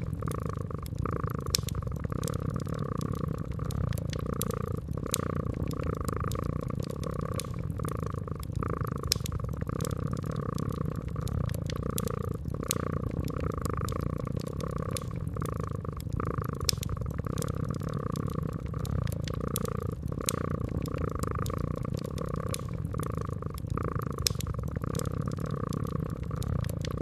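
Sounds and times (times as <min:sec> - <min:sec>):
cat purring: 0:00.0 - 0:27.0
fireplace crackling: 0:00.0 - 0:27.0.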